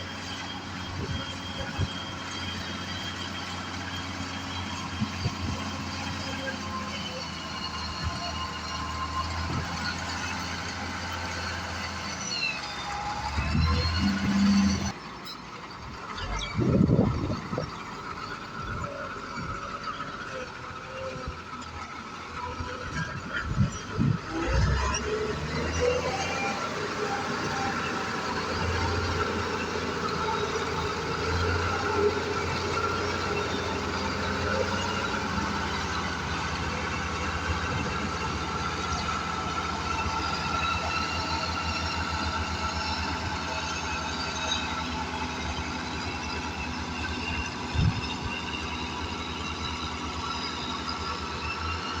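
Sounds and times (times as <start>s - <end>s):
engine pulsing steadily: 0.0s - 52.0s.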